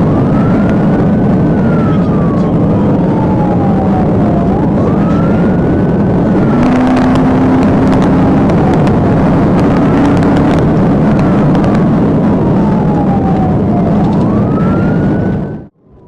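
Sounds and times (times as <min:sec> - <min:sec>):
car engine and road noise: 0:00.0 - 0:16.0
police siren wailing: 0:00.0 - 0:16.0.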